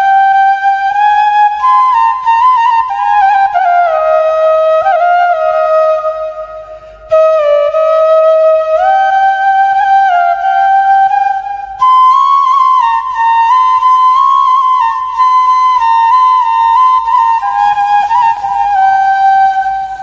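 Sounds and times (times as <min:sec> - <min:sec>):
solo flute slow melody: 0:00.0 - 0:20.0.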